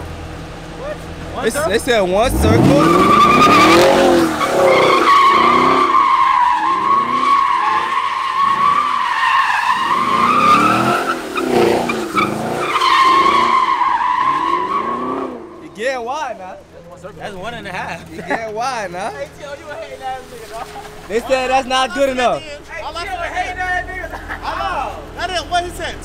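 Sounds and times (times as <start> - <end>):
car engine revving: 0.0 - 26.0
tires squealing: 0.5 - 26.0.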